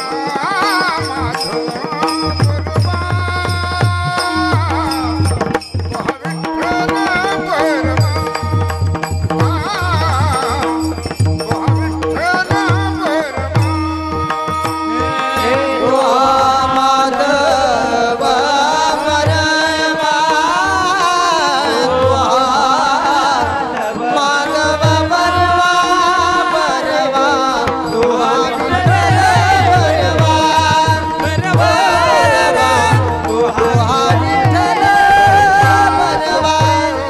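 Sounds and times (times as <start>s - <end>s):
man singing devotional song: 0.0s - 37.0s.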